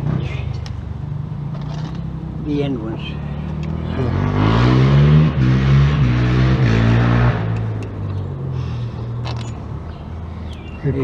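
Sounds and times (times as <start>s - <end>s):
vehicle engine accelerating: 0.0s - 11.0s.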